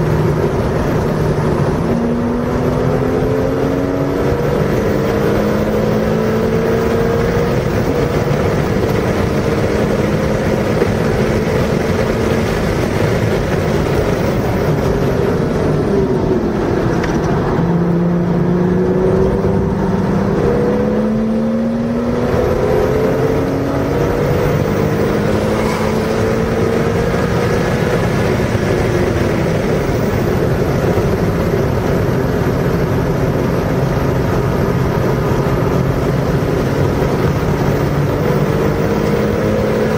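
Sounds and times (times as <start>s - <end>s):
car engine accelerating hard: 0.0s - 39.9s
road and wind noise: 0.0s - 39.9s.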